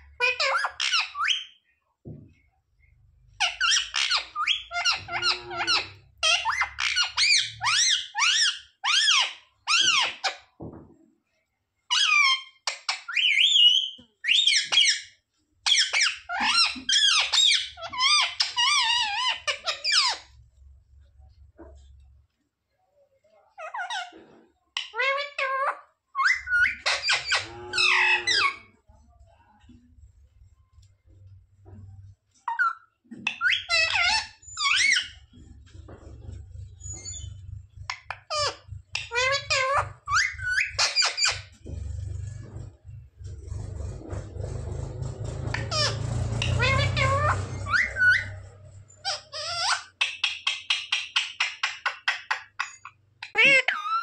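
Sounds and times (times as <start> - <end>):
parrot chattering and screeching: 0.0 - 1.6, 3.3 - 10.4, 11.9 - 20.4, 23.6 - 28.8, 32.4 - 54.0.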